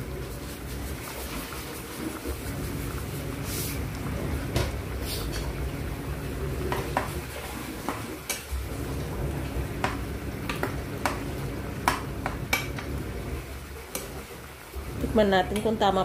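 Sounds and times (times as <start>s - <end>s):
sauce bubbling: 0.0s - 16.0s.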